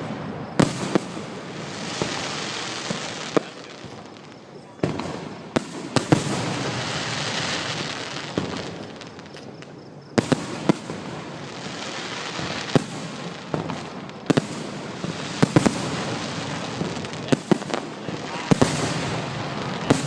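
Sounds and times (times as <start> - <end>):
fireworks bangs: 0.0 - 20.0
fireworks crackling hiss: 0.0 - 20.0.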